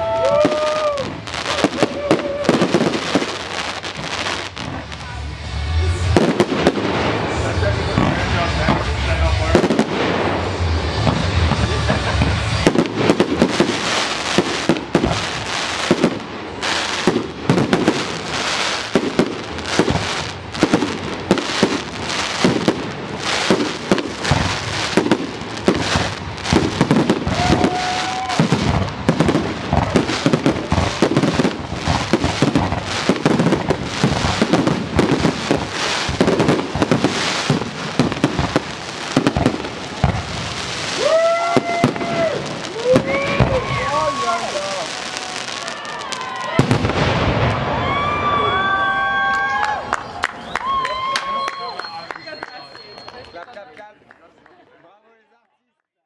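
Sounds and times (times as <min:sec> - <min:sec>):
fireworks bursting: 0:00.0 - 0:53.5
fireworks crackling: 0:00.0 - 0:53.8.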